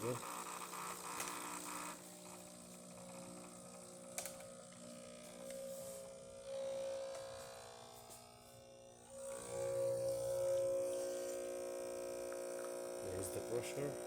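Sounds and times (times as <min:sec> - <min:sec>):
espresso machine pump humming: 0:00.0 - 0:14.0.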